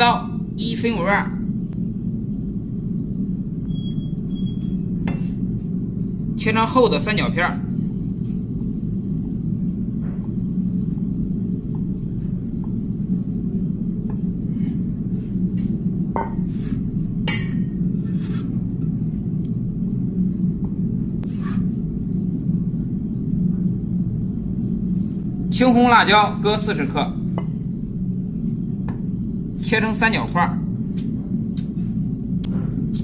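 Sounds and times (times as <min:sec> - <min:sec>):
low rumble: 0:00.0 - 0:33.0.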